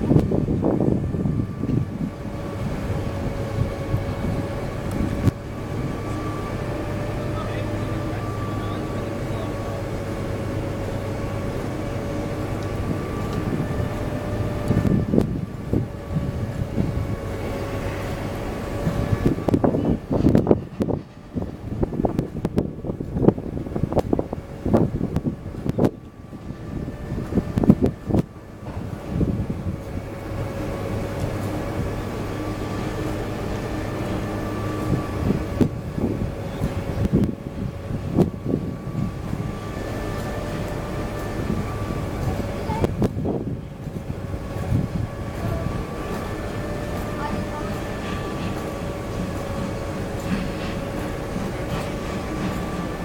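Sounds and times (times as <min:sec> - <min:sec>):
distant steam locomotive rumble: 0:00.0 - 0:53.0
thin steady whine: 0:00.0 - 0:53.0.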